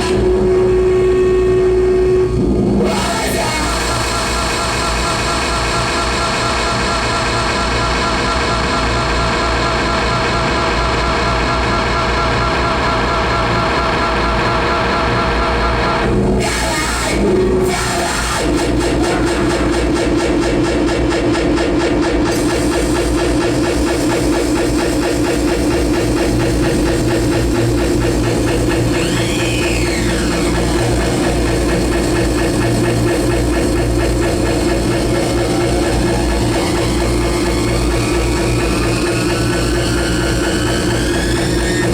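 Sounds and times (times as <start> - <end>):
harsh noise music: 0.0 - 41.9
steady drone tone: 0.0 - 41.9.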